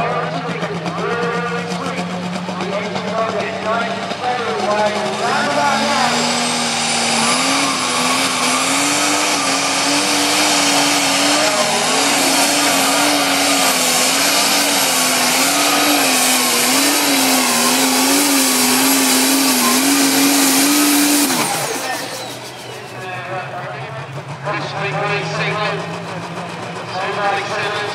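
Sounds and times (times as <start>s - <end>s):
tractor engine under load: 0.0s - 27.9s.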